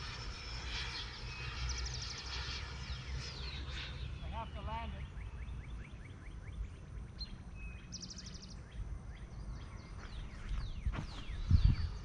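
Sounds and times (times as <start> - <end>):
birds trilling and chirping: 0.0 - 12.0
low background rumble: 0.0 - 12.0.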